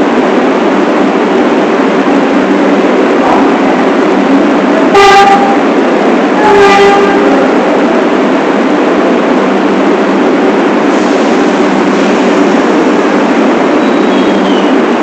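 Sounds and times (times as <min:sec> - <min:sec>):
subway train running on track: 0:00.0 - 0:15.0.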